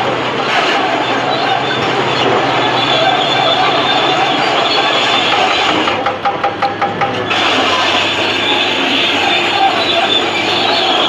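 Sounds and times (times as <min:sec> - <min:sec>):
bulldozer tracks squealing and clanking: 0:00.0 - 0:11.0
diesel engine running: 0:00.0 - 0:11.0.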